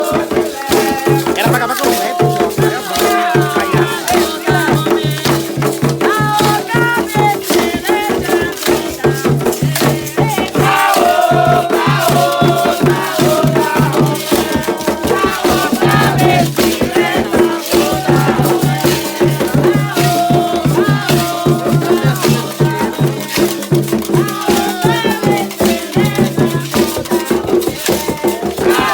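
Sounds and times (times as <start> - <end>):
pulsing percussion: 0.0 - 28.9
rattles shaken in rhythm: 0.0 - 28.9
voices singing: 0.0 - 28.9.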